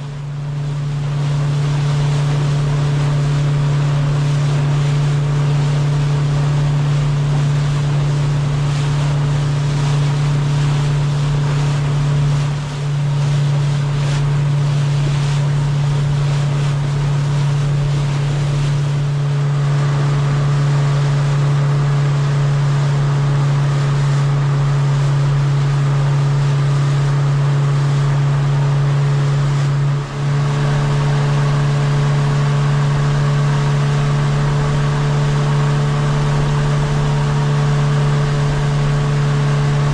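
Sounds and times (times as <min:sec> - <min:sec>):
outboard motor humming: 0:00.0 - 0:39.9
water rushing past hull: 0:00.0 - 0:39.9.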